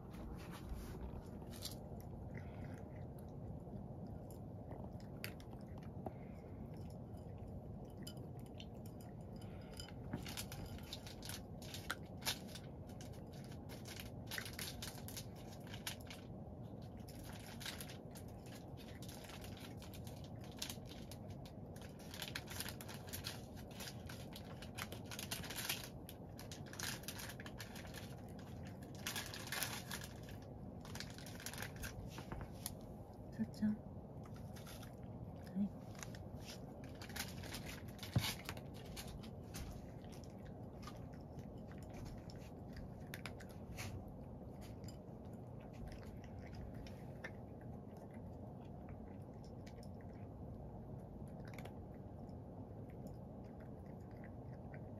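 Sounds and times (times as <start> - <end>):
cat crunching dry kibble: 0.0 - 54.9
low background hum: 0.0 - 54.9.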